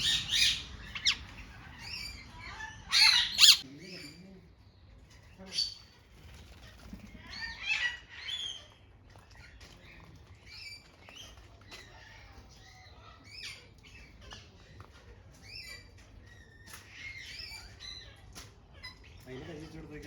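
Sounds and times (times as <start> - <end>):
parrots squawking and chirping: 0.0 - 4.2, 5.1 - 20.0.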